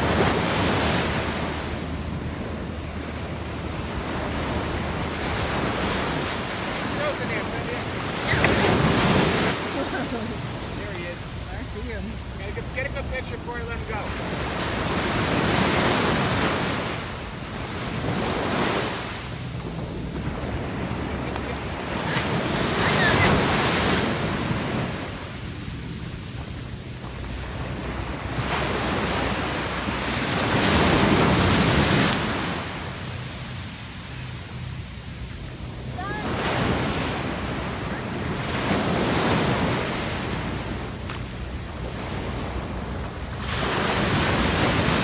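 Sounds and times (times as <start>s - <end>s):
ocean surf on sandy beach: 0.0s - 45.0s.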